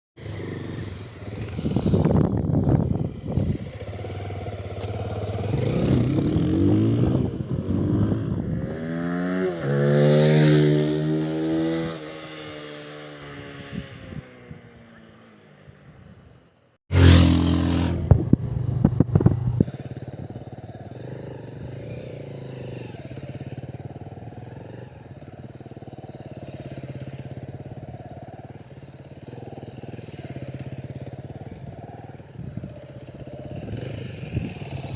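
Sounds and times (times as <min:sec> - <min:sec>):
motorcycle engine revving: 0:00.2 - 0:15.4, 0:16.9 - 0:34.9.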